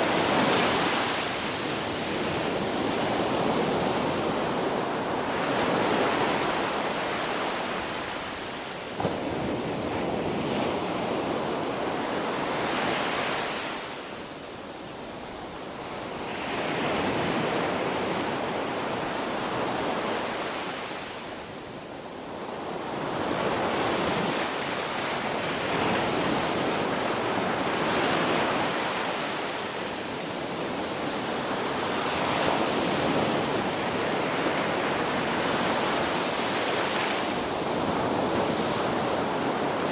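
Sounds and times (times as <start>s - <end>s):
sea waves breaking on beach: 0.0s - 14.4s, 22.1s - 39.9s.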